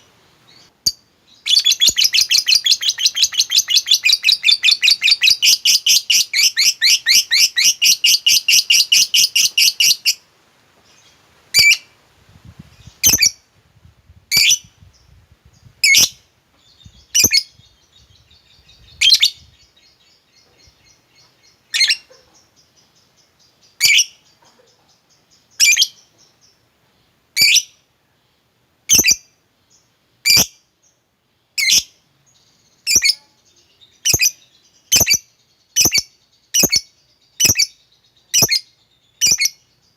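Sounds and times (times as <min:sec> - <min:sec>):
lovebird chirping: 0:00.0 - 0:13.5, 0:14.2 - 0:39.9.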